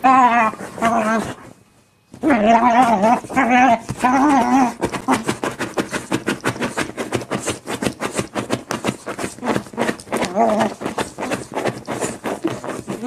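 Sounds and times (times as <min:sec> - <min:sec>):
dog whining: 0:00.0 - 0:01.6, 0:02.2 - 0:07.7, 0:08.4 - 0:13.0
paws scratching fabric cushion: 0:00.0 - 0:01.6, 0:02.2 - 0:13.0.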